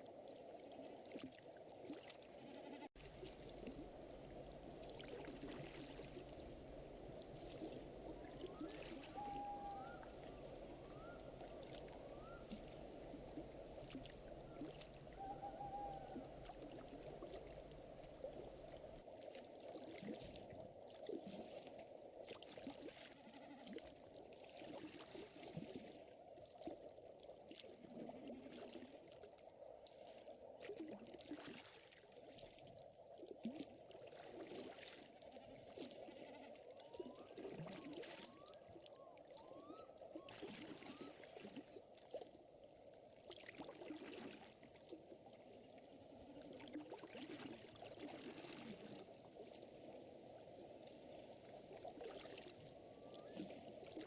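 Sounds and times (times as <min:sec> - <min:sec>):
water lapping: 0:00.7 - 0:26.8, 0:33.4 - 0:54.0.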